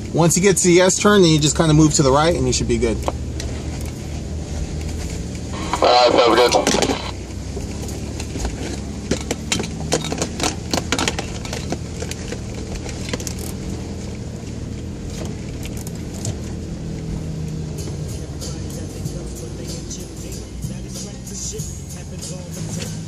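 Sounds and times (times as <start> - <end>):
engine running low: 0.0 - 23.0.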